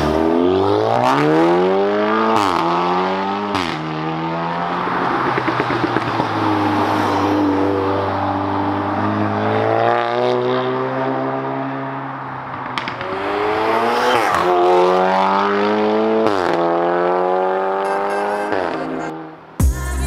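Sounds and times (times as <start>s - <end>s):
car engine accelerating: 0.0s - 19.6s.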